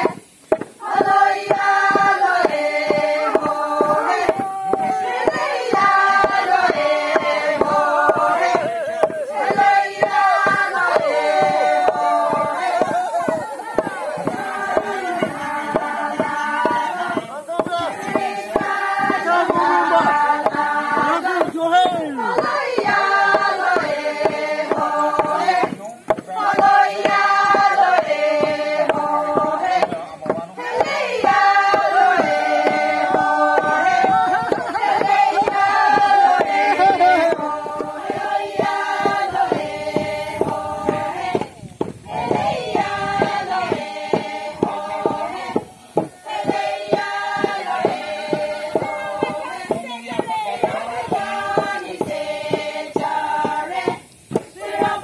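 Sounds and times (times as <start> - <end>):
bamboo poles knocking on ground: 0.0 - 55.0
women singing a folk chant: 0.0 - 55.0.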